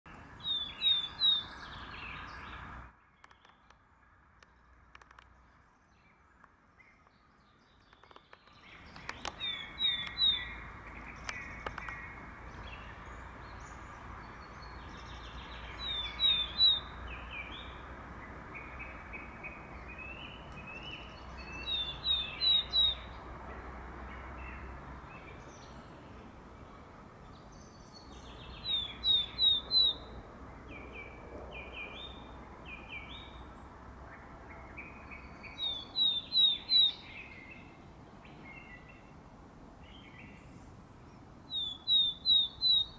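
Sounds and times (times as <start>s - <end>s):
other birds calling faintly: 0.1s - 42.9s.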